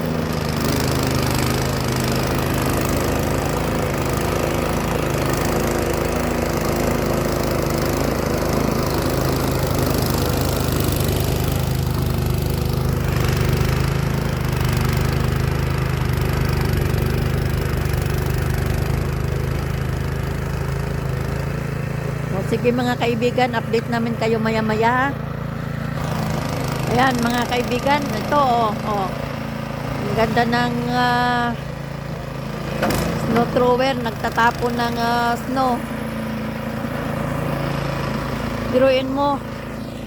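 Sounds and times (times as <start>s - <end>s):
snow thrower engine running: 0.0s - 40.0s.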